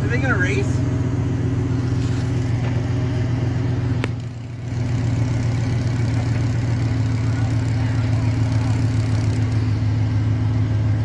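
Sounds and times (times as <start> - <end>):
compactor engine humming: 0.0 - 11.0.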